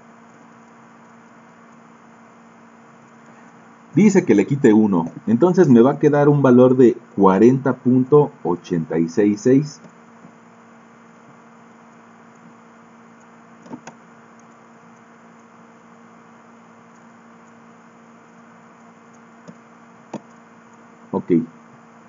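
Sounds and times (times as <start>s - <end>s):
background hiss: 0.0s - 22.0s
low electrical hum: 0.0s - 22.0s.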